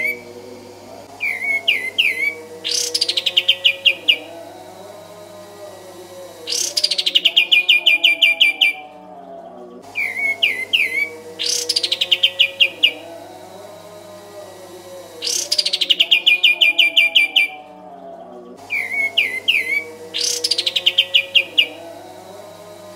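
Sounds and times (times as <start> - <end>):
bulbul singing: 0.0 - 22.9
faint steady hum: 0.0 - 22.9.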